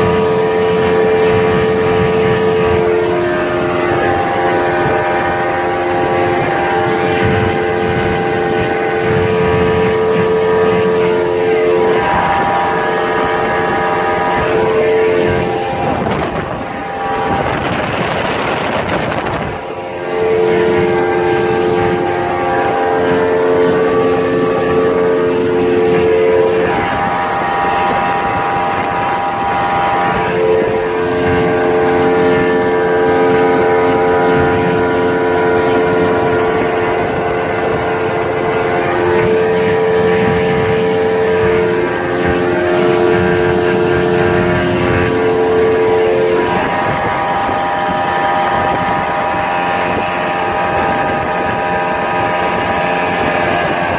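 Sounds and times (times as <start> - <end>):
outboard motor running at high speed: 0.0 - 53.9
rushing noise: 0.0 - 53.9.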